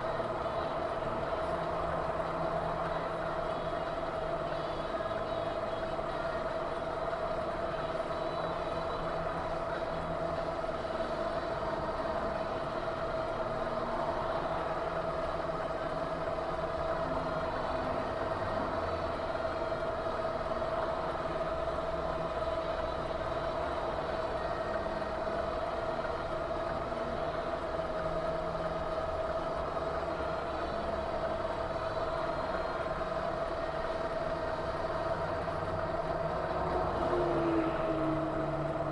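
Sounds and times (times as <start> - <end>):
constant whine: 0.0 - 38.9
vehicle engine and road noise: 0.0 - 38.9.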